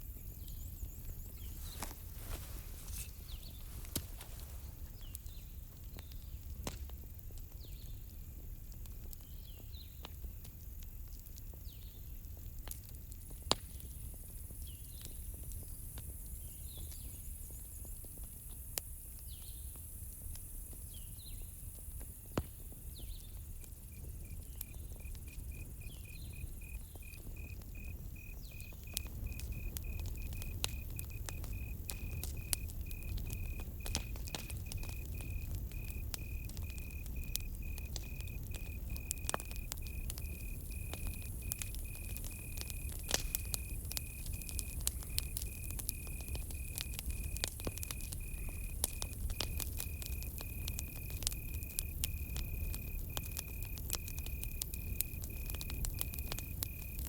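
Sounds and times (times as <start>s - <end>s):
cricket chirping: 0.0s - 6.6s, 13.9s - 57.0s
campfire crackling: 0.0s - 57.0s.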